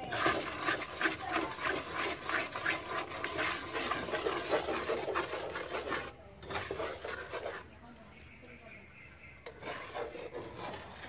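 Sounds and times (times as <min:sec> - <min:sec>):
wooden spatula scraping wok: 0:00.0 - 0:07.8, 0:09.2 - 0:11.0.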